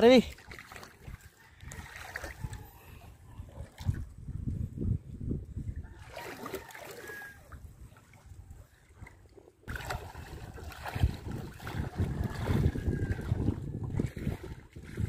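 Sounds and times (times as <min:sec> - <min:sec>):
water sloshing around wading legs: 0:00.0 - 0:04.3, 0:05.8 - 0:15.0
wind rumbling on microphone: 0:00.8 - 0:15.0.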